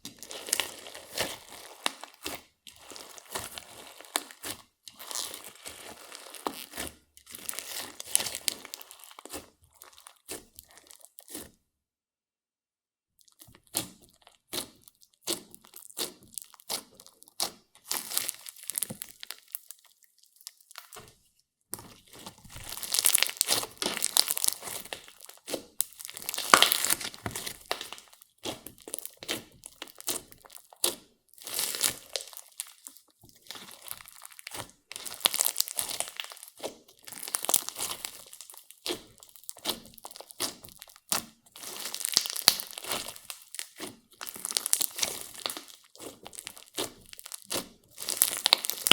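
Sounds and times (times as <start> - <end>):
slime crackling and squishing: 0.0 - 11.6, 13.2 - 48.9.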